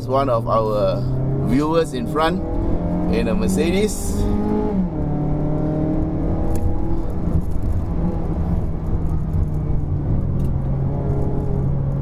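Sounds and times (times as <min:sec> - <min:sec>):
road and tyre rumble: 0:00.0 - 0:12.0
car engine pulling: 0:00.2 - 0:12.0.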